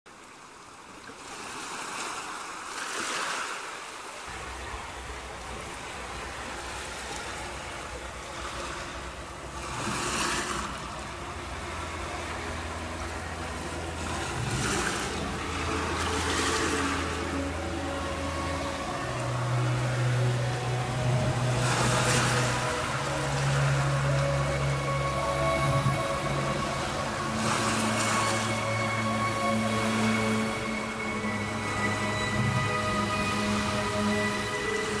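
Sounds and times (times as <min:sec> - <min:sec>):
ocean waves washing: 0:00.1 - 0:35.0
low steady drone: 0:04.3 - 0:35.0.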